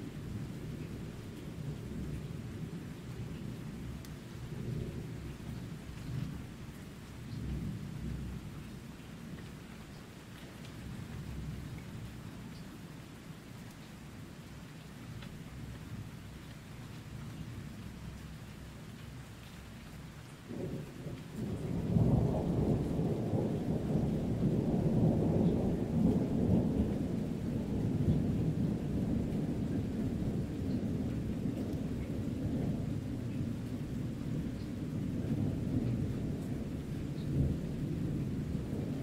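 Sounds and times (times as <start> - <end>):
steady rain: 0.0 - 39.0.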